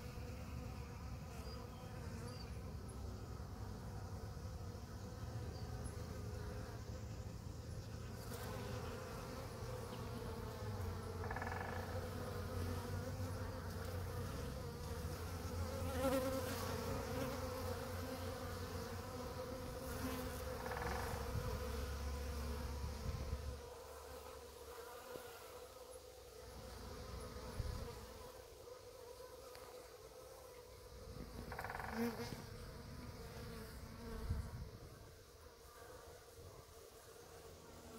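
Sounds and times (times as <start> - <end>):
bee flying past: 0.0 - 37.9
bees buzzing: 0.0 - 37.9.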